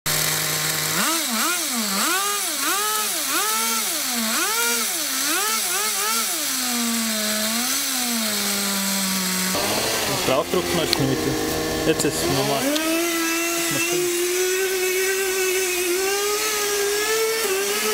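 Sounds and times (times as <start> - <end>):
small model engine revving and idling: 0.0 - 17.9.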